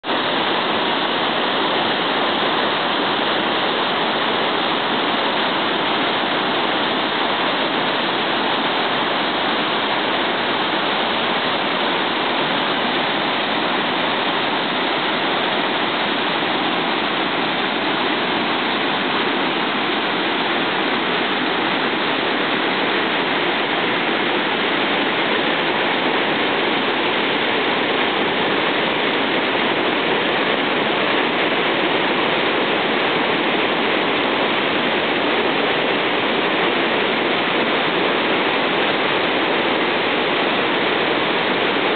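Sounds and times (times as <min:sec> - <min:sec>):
river rapids roaring: 0:00.1 - 0:41.9.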